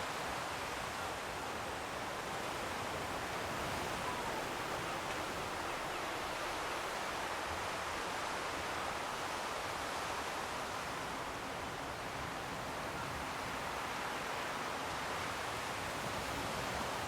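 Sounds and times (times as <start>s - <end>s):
distant sea surf rushing: 0.0s - 17.0s.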